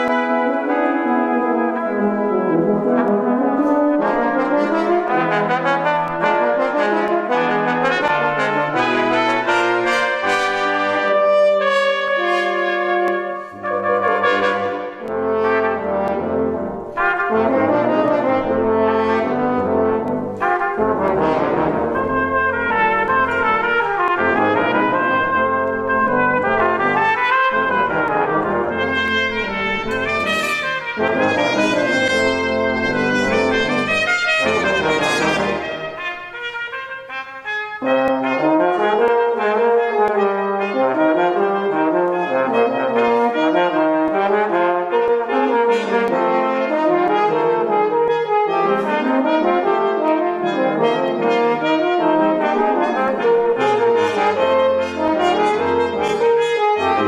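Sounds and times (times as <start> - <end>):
brass quintet playing: 0.0 - 57.0.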